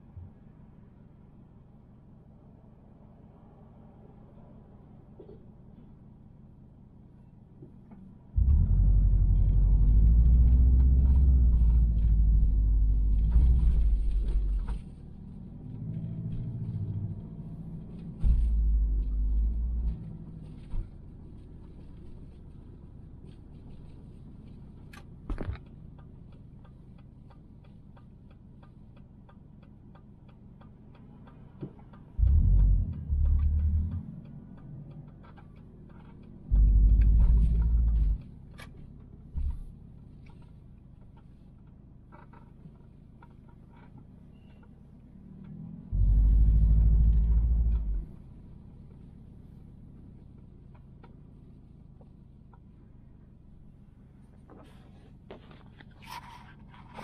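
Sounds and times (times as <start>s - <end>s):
road rumble inside car cabin: 0.0s - 57.0s.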